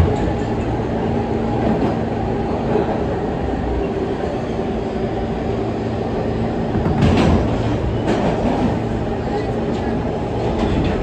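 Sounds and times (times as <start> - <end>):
subway wheels rumbling on rail: 0.0 - 11.0.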